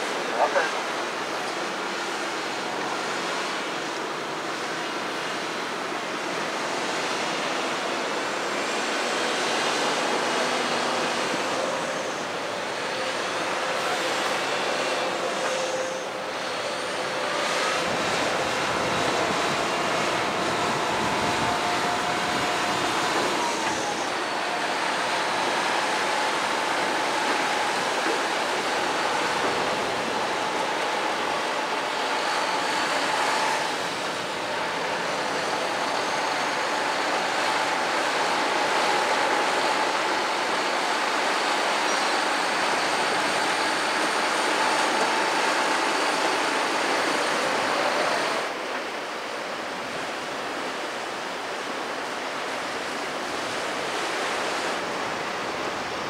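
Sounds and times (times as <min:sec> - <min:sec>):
heavy truck engine drone: 0:00.0 - 0:56.0.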